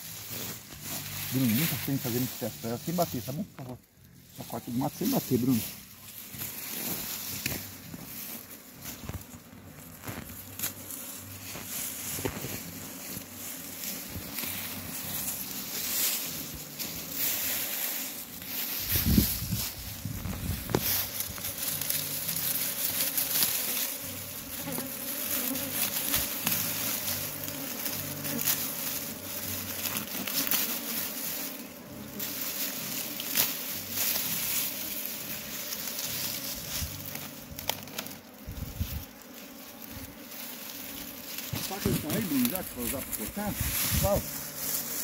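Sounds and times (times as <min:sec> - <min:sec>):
bees buzzing: 0:00.0 - 0:45.0
dry grass rustling: 0:00.0 - 0:45.0.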